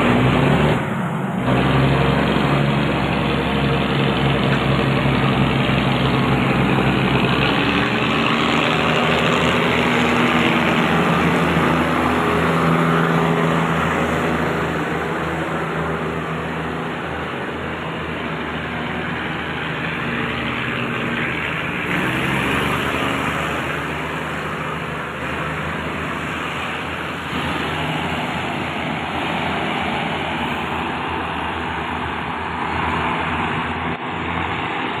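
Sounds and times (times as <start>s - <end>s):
diesel railcar running: 0.0s - 35.0s.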